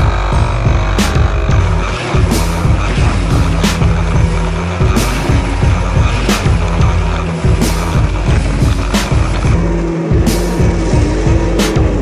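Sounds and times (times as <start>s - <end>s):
background music with beat: 0.0s - 12.0s
jet ski engine running: 0.0s - 12.0s
water spray: 1.7s - 11.8s.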